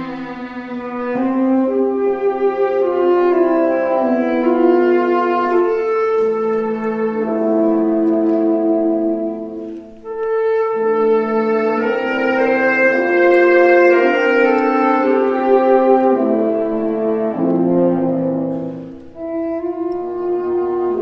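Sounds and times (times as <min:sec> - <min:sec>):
chamber ensemble held chords: 0:00.0 - 0:21.0
tenor saxophone: 0:00.0 - 0:21.0.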